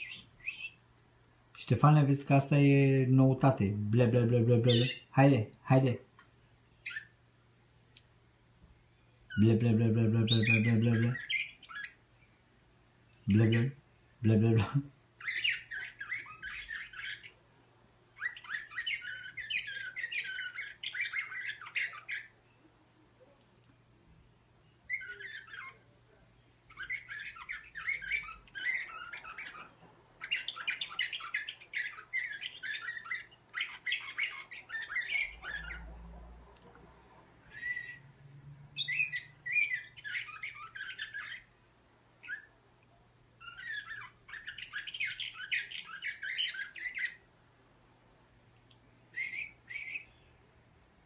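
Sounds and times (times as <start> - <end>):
canary singing trilled phrases: 0.0 - 0.9, 1.5 - 6.1, 6.7 - 7.3, 9.0 - 12.3, 13.0 - 17.4, 18.1 - 23.4, 24.6 - 36.1, 37.4 - 47.4, 48.7 - 50.5.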